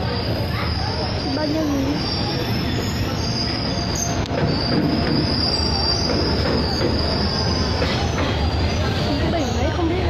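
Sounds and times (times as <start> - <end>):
rumble of train wagons: 0.0 - 10.0
train wheels squealing on rails: 0.0 - 10.0.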